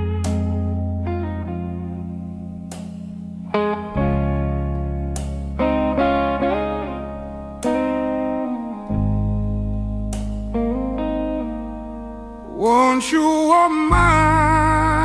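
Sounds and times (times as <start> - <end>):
held bass line: 0.0 - 13.0, 13.6 - 15.0
blues electric guitar with bends: 0.0 - 15.0.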